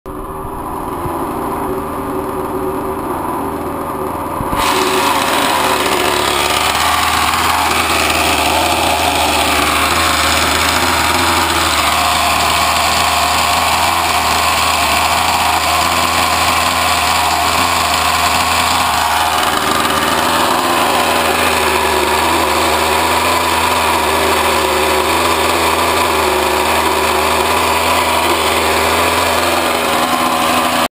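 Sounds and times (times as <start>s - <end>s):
motor hum and whine: 0.1s - 30.9s.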